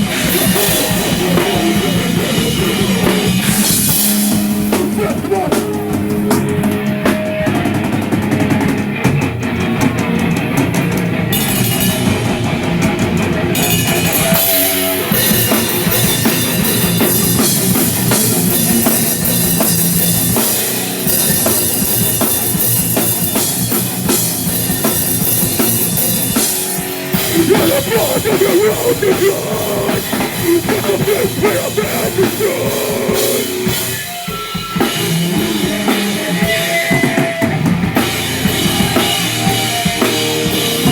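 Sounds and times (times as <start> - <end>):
distorted guitars: 0.0 - 40.9
live rock band playing: 0.0 - 40.9
pounding drum kit: 0.0 - 40.9.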